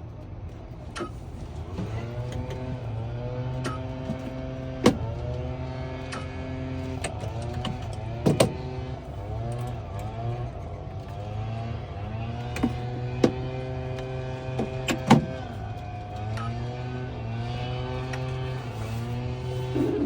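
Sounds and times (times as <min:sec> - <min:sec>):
motor running: 0:01.6 - 0:20.0.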